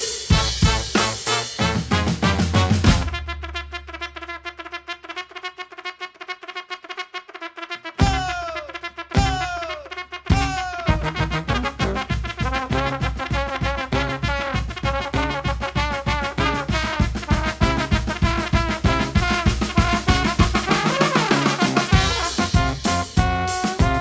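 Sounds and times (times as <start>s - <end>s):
drum strokes: 0.0s - 4.1s, 8.0s - 24.0s
trumpets and trombones: 0.0s - 24.0s.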